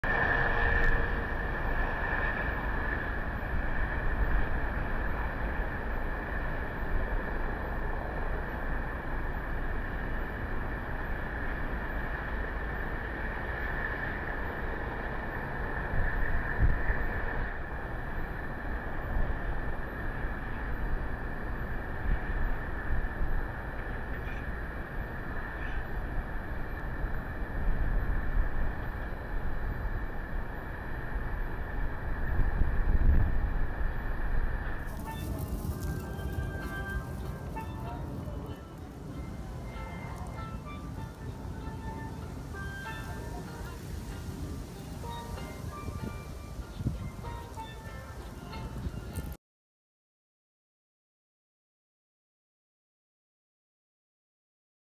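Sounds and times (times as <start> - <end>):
constant high whine: 0.0 - 49.4
steady outdoor rumble: 0.0 - 49.4
wind gusting on microphone: 0.0 - 49.4.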